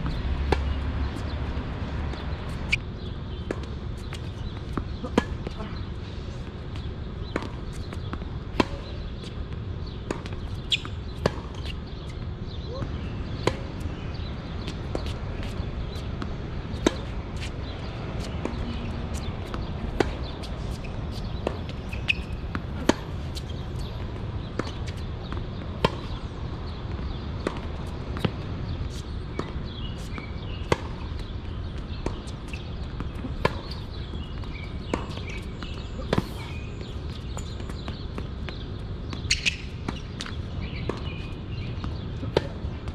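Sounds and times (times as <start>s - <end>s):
tennis balls struck by racquets: 0.0s - 5.7s, 6.8s - 42.9s.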